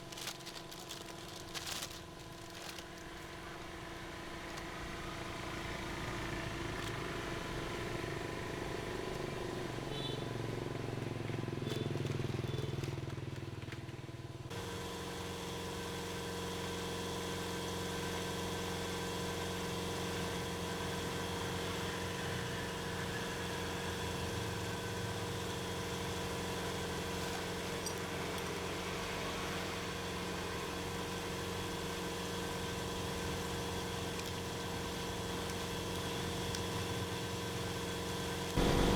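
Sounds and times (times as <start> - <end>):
small motorcycle engine idling: 0.0 - 38.9.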